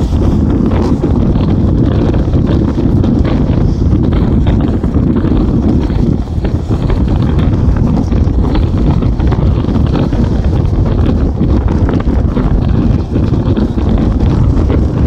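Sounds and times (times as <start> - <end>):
bus rumbling: 0.0 - 15.0
wind buffeting microphone: 0.0 - 15.0.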